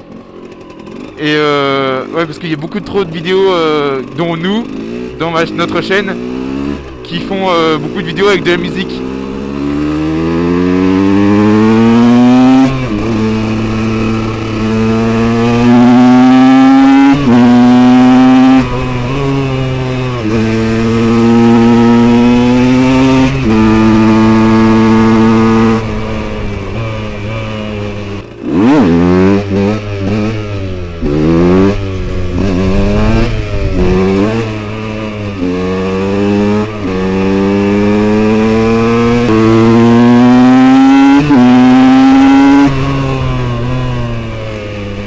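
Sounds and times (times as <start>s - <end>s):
two-stroke engine revving: 0.0s - 45.0s.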